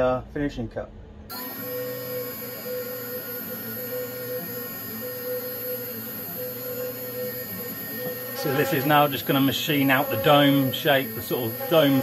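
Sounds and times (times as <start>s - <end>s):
mid-pitched tone cutting in and out: 1.2s - 12.0s
router spindle whine and hum: 1.3s - 12.0s.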